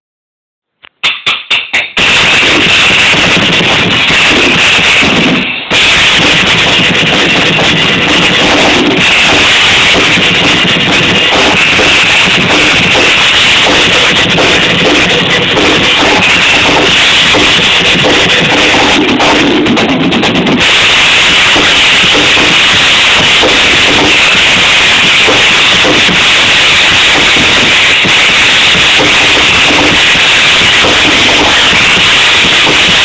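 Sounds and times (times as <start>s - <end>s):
distorted drum kit playing: 0.8s - 33.0s.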